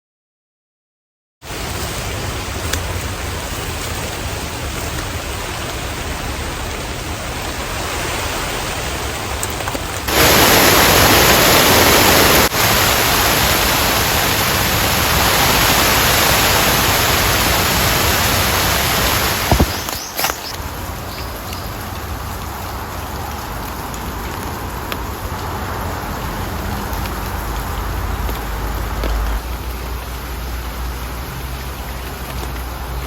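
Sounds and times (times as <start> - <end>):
heavy rain falling: 1.4 - 33.0.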